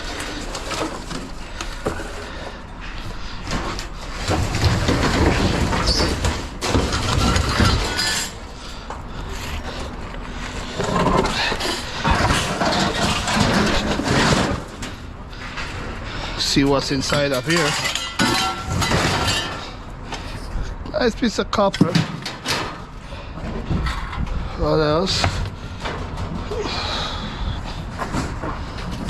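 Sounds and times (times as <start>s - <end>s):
scrap metal clanking and scraping: 0.0s - 20.8s, 21.6s - 29.0s.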